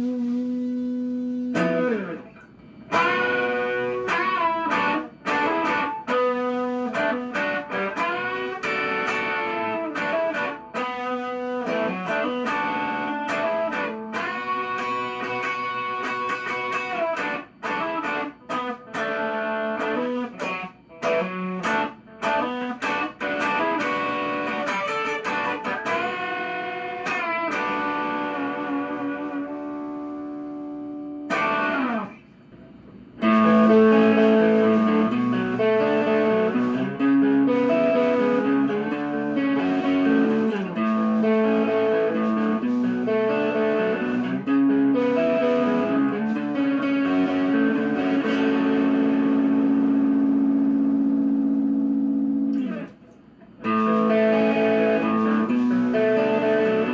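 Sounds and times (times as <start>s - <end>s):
electric guitar chords and riff: 0.0s - 56.9s.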